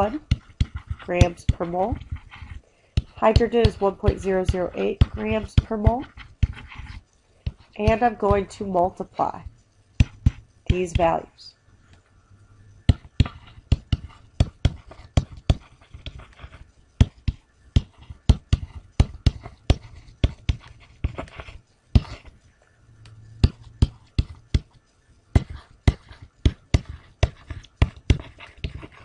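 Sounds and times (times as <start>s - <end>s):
stylus tapping on tablet screen: 0.0s - 11.3s, 12.8s - 22.4s, 23.1s - 29.0s.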